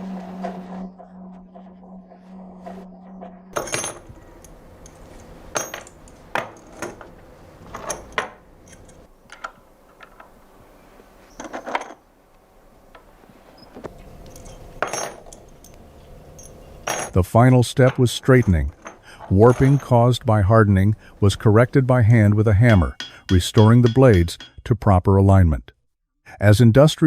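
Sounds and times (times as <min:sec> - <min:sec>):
low steady hum: 0:00.0 - 0:25.6.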